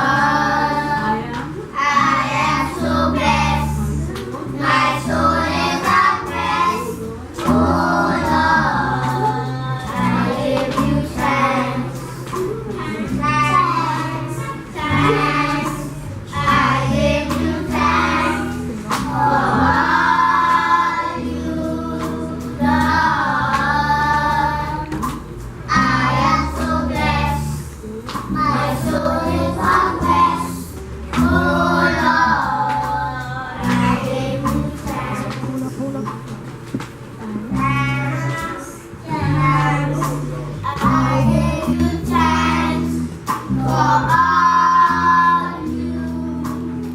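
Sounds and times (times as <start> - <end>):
small children singing: 0.0 - 36.3, 37.4 - 46.9
instrumental accompaniment: 0.0 - 46.9.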